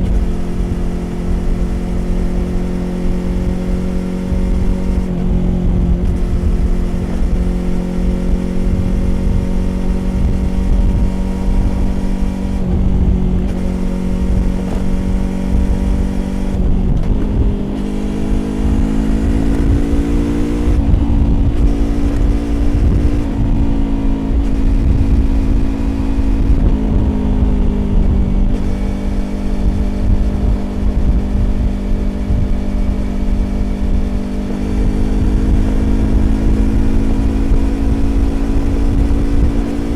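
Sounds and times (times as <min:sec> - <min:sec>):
motorcycle engine riding: 0:00.0 - 0:39.9
wind and road rumble: 0:00.0 - 0:39.9.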